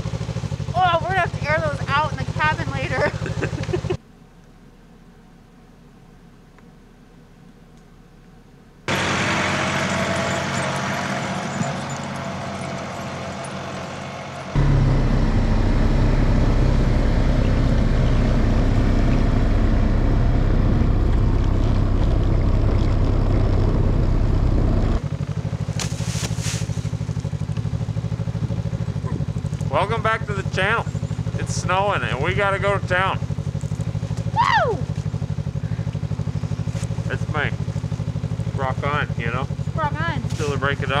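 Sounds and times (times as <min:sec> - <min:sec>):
snowmobile engine running: 0:00.0 - 0:04.0, 0:08.9 - 0:41.0.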